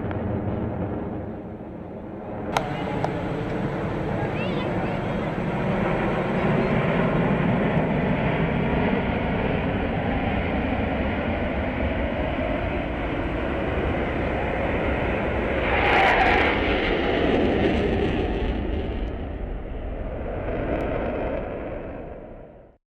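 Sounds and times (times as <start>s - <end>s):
jet engine rumble: 0.0s - 22.8s.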